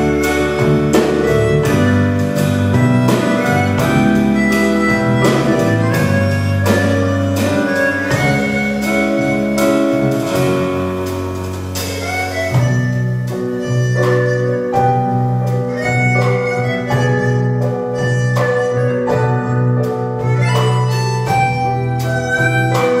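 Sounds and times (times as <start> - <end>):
bass guitar: 0.0 - 23.0
drums: 0.0 - 23.0
free-reed instrument chords: 0.0 - 23.0
piano: 0.0 - 23.0.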